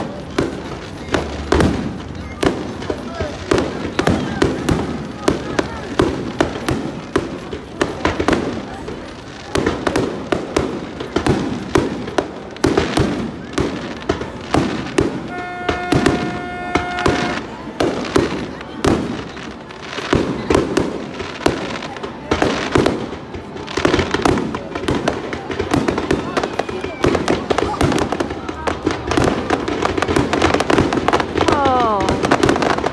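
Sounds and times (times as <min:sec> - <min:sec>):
fireworks bangs and crackling: 0:00.0 - 0:32.9.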